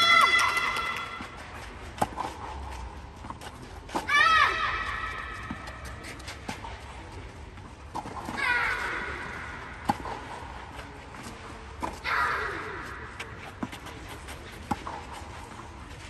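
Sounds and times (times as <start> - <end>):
tennis balls hit with rackets: 0.0 - 6.8, 7.9 - 15.7.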